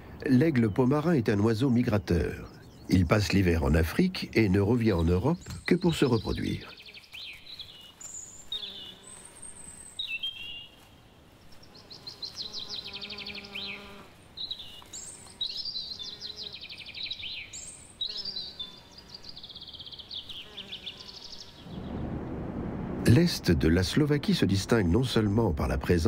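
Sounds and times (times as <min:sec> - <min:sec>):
small birds singing trills: 0:00.3 - 0:22.0.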